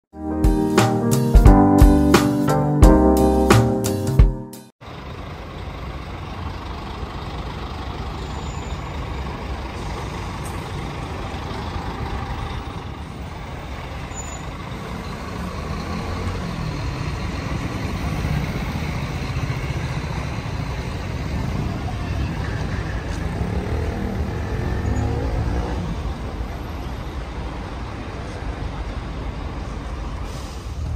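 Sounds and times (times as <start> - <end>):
diesel bus engine rumbling: 4.8 - 30.9.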